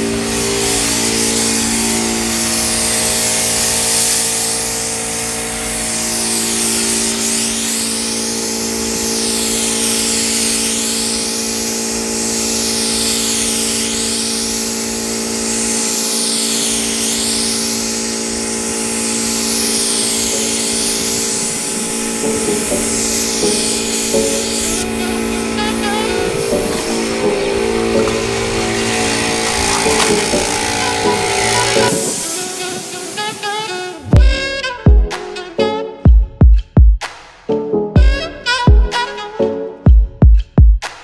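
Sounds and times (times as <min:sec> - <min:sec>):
paint spray gun hissing: 0:00.0 - 0:34.1
steady hum: 0:00.0 - 0:35.1.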